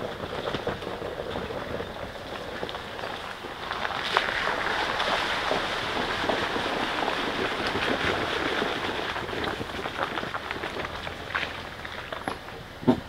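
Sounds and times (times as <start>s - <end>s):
tyres crunching over gravel: 0.0s - 13.0s
tyres sloshing through puddles: 0.0s - 13.0s.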